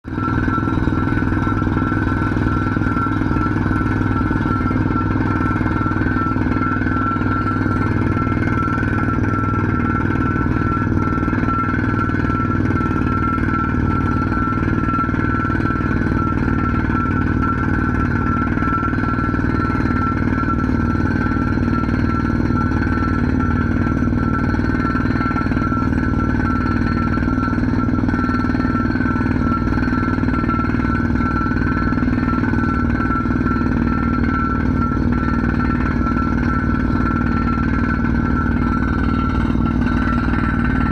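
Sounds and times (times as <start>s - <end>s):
drilling machine whining: 0.0s - 40.9s.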